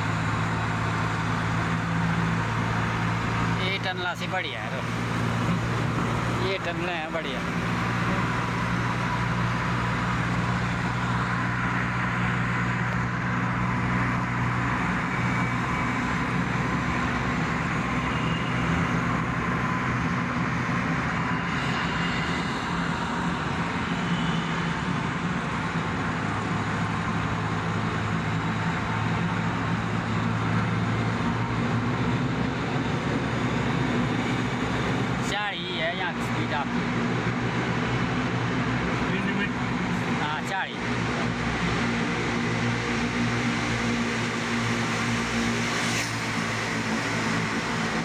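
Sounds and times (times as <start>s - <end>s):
car driving through tunnel: 0.0s - 48.0s.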